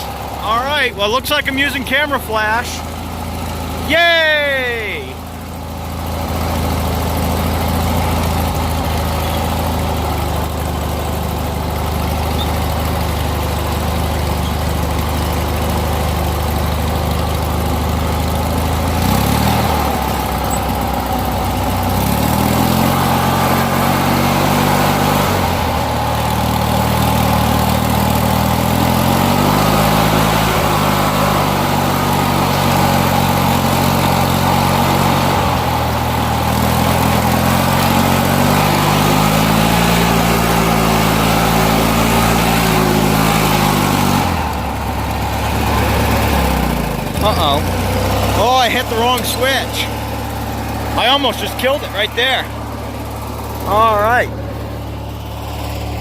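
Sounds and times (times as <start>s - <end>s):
lawn mower engine running: 0.0s - 56.0s.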